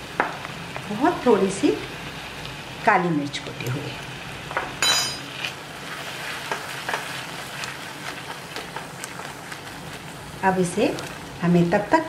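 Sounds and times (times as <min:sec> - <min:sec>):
masala sizzling in a pot: 0:00.0 - 0:12.0.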